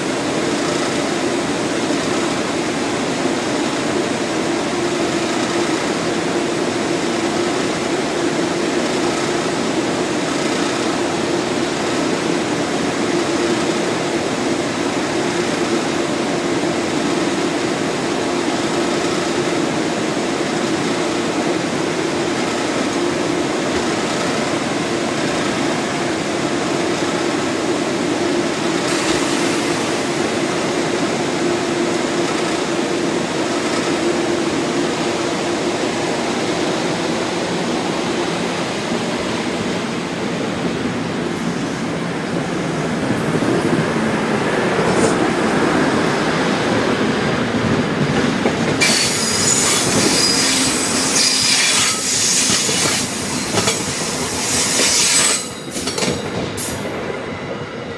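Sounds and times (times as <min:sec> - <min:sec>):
train equipment humming: 0:00.0 - 0:57.9
train rolling out: 0:00.0 - 0:57.9.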